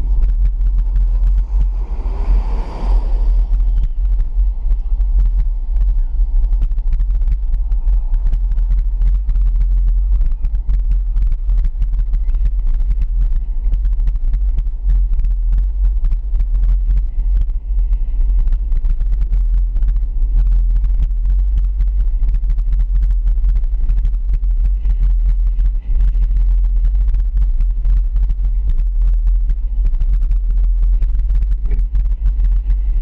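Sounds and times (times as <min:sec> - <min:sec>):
road and wind rumble: 0:00.0 - 0:33.0
small microphone crackles: 0:00.0 - 0:33.0.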